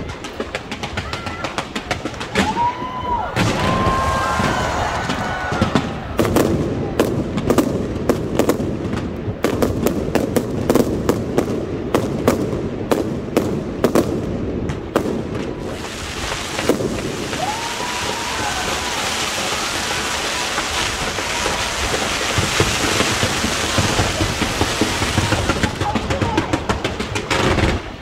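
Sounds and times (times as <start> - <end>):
fireworks bangs: 0.0 - 28.0
fireworks crackling hiss: 0.0 - 28.0.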